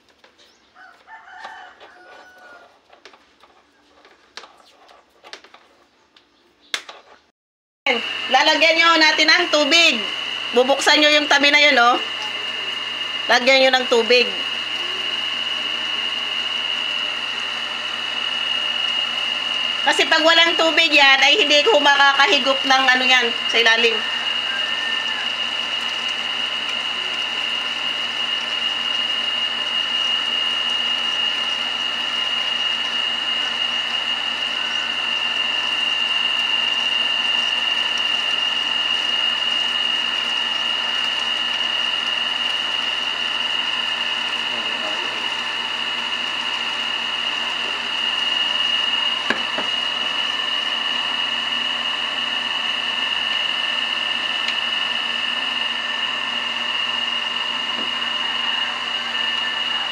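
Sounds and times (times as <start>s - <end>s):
high-pitched pump whine: 7.9s - 59.9s.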